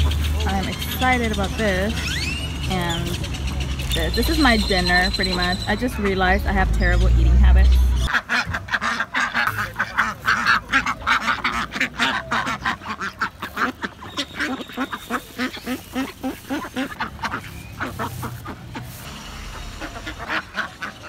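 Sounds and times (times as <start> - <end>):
ducks quacking: 0.0 - 21.0.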